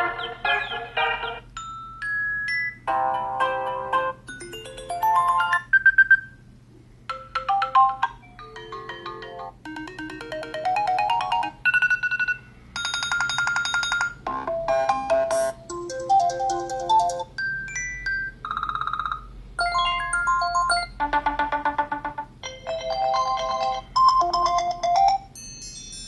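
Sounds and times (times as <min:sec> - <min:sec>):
electronic ringtone melodies: 0:00.0 - 0:06.2, 0:07.1 - 0:26.0.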